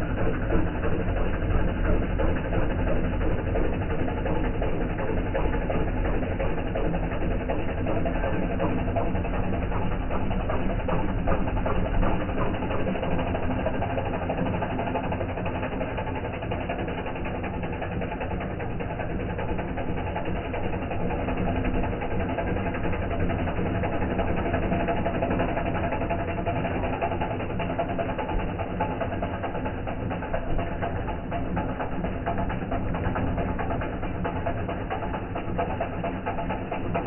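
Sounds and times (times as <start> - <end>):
tractor diesel engine clattering: 0.0 - 37.0.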